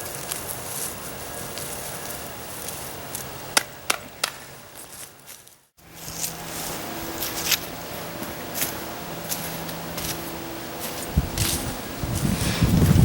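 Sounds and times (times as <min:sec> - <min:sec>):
hands rustling through soil: 0:00.0 - 0:03.6, 0:04.2 - 0:13.0.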